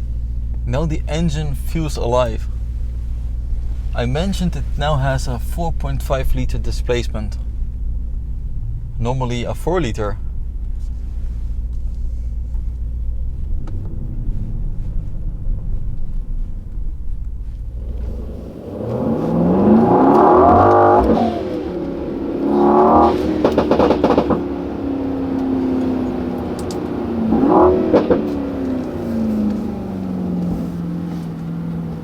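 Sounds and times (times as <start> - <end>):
car engine revving: 0.0 - 32.0
exhaust crackles: 0.0 - 32.0.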